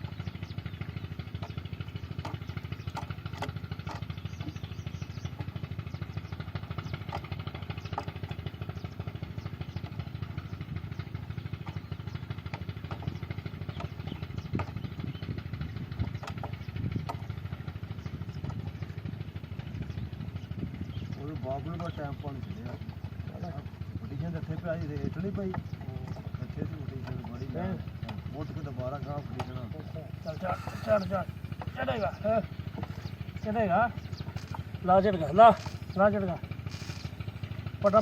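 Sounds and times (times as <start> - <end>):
diesel engine putter: 0.0 - 38.0.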